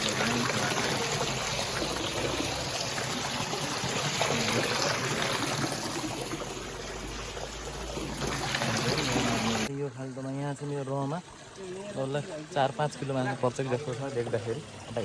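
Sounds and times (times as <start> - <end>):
water trickling in a channel: 0.0 - 15.0.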